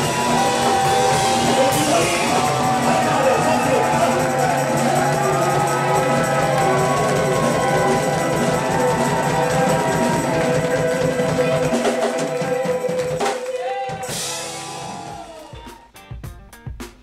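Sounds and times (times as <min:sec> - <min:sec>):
drum hits: 0:00.0 - 0:17.0
funk band sustained notes: 0:00.0 - 0:17.0.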